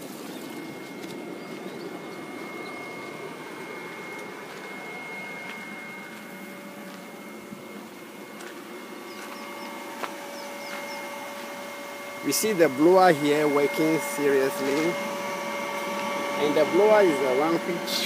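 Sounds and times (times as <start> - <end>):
air blower whining: 0.0 - 18.0
lower tone: 0.0 - 18.0.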